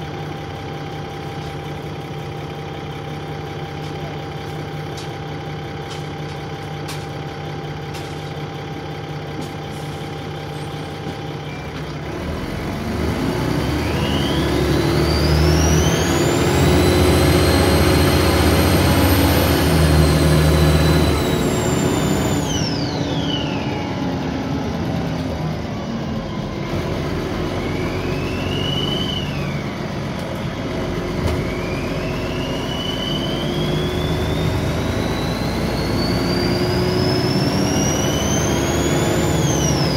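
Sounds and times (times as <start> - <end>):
bus engine idling: 0.0 - 37.6
turbo whine: 0.0 - 39.9.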